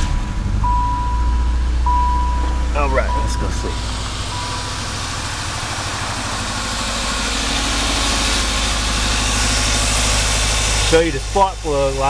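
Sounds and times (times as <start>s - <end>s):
misfiring car engine idling: 0.0s - 12.0s.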